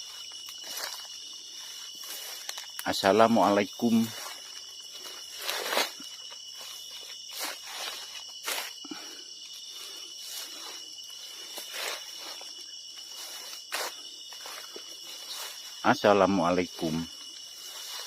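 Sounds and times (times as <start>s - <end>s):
crickets chirring: 0.0s - 18.0s
footsteps through vegetation: 0.0s - 18.0s.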